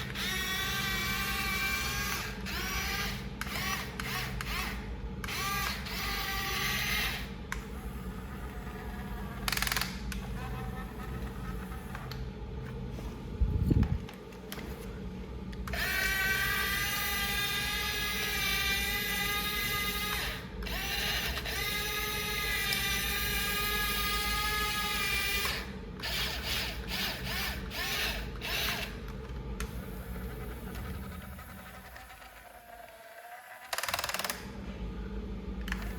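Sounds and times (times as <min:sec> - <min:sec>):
toy gear motors whining: 0:00.0 - 0:12.2, 0:15.7 - 0:29.0, 0:30.0 - 0:34.4
faint low hum: 0:00.0 - 0:33.0.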